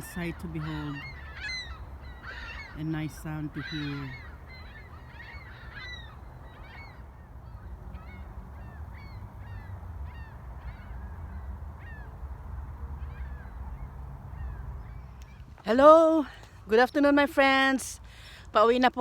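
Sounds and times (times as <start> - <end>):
waterbirds calling: 0.0 - 18.7.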